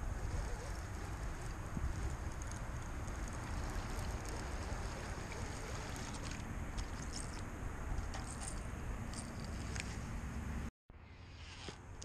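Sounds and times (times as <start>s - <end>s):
wind rumbling on microphone: 0.0s - 10.7s.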